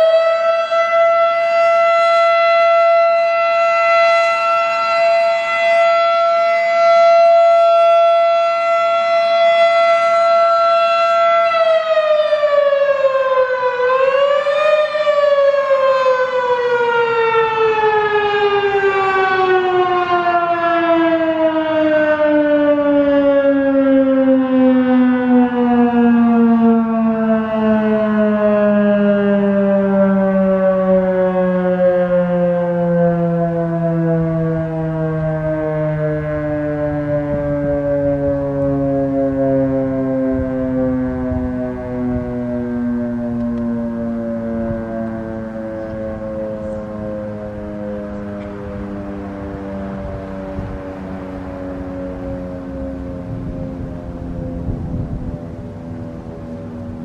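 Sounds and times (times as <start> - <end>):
fire siren wailing: 0.0 - 57.0.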